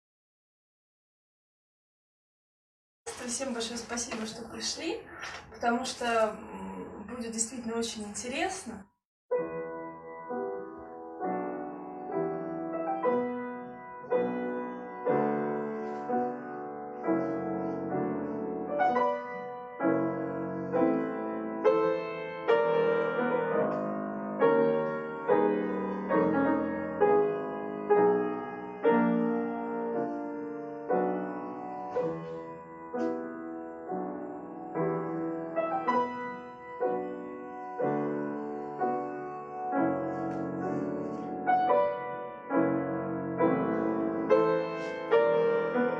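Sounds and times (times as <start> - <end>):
slow classical piano piece: 3.1 - 8.7, 9.3 - 45.9.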